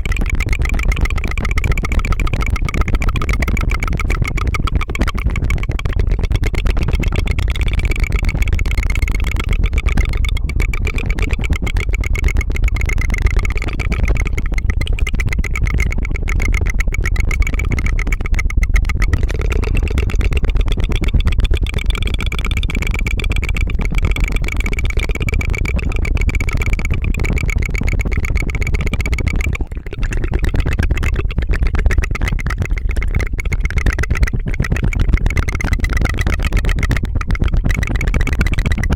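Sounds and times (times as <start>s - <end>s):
rapid tongue trill: 0.0s - 38.9s.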